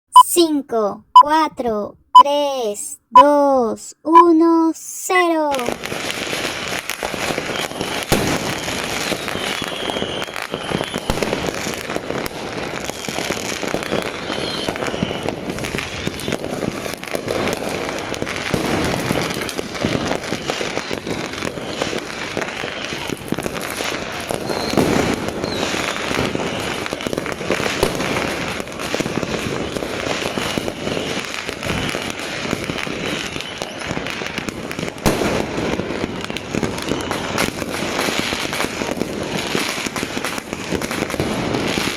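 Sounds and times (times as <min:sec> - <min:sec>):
fireworks bangs and crackles: 0:05.4 - 0:41.9.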